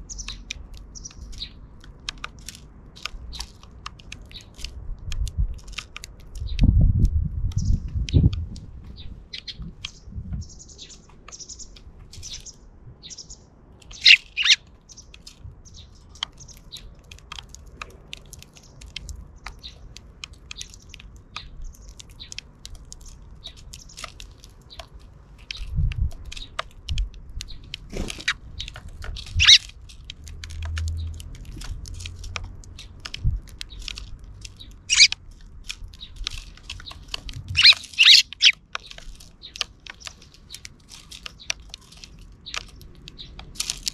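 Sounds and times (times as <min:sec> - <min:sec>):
sparrows chirping: 0:00.0 - 0:04.7, 0:07.5 - 0:43.9
small clicks: 0:00.1 - 0:10.0, 0:13.7 - 0:43.9.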